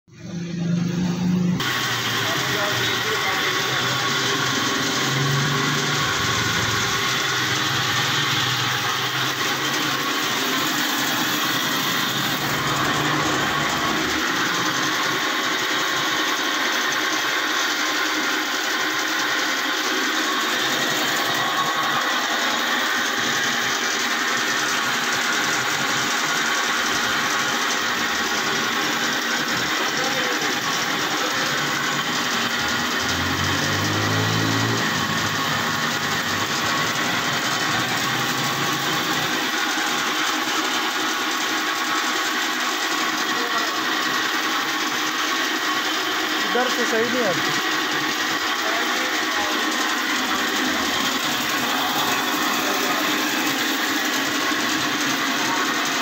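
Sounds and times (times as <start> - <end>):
bandsaw running: 0.2 - 56.0.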